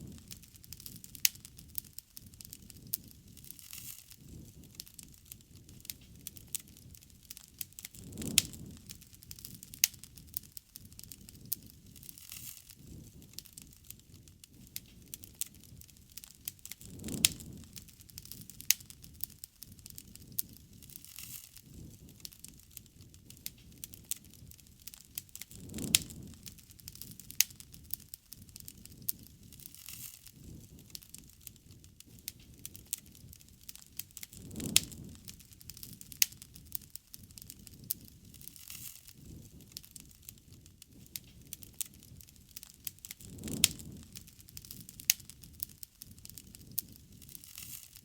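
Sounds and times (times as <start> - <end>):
campfire crackling and popping: 0.0 - 48.0
low rush of flame: 0.0 - 48.0.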